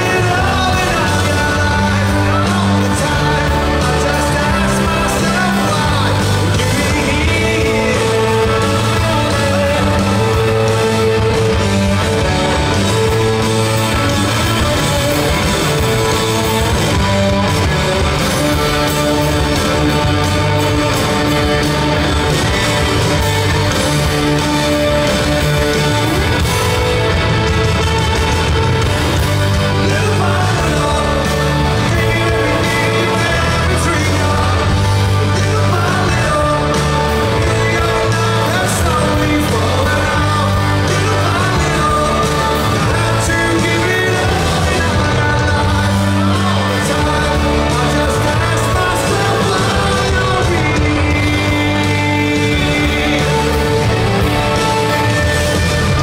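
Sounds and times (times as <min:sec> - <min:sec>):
man singing: 0:00.0 - 0:27.2, 0:28.4 - 0:56.0
live rock band playing: 0:00.0 - 0:56.0.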